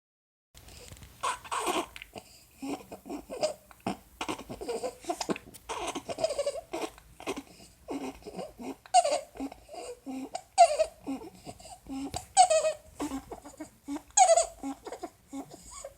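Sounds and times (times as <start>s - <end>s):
squeaky breathing: 0.6s - 15.9s
baby fussing: 1.2s - 15.9s.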